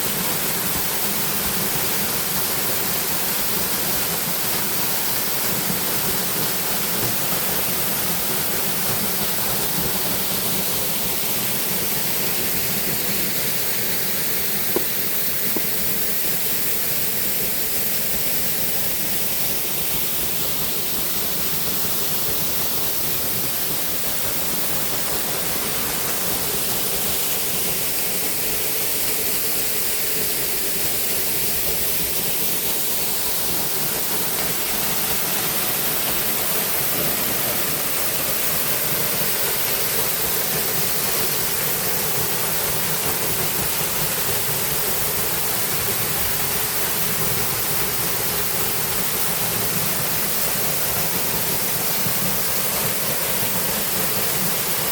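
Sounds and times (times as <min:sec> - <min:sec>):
rushing river and waterfall: 0:00.0 - 0:54.9.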